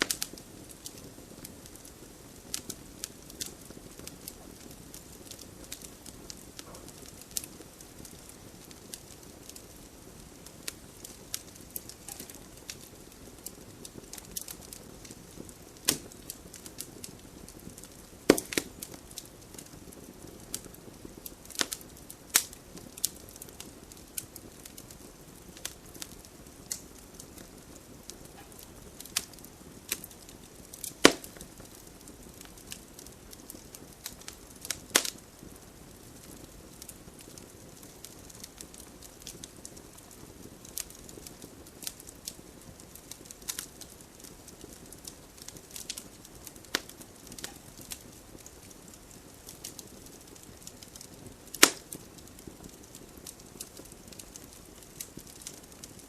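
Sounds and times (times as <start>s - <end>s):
campfire flames hissing: 0.0s - 56.0s
fire crackling and popping: 0.0s - 56.0s.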